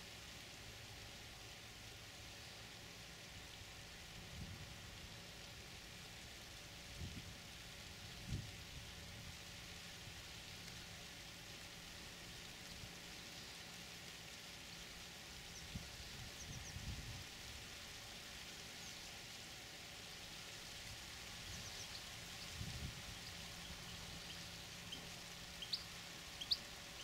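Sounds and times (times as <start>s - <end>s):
light rain hissing: 0.0s - 27.0s.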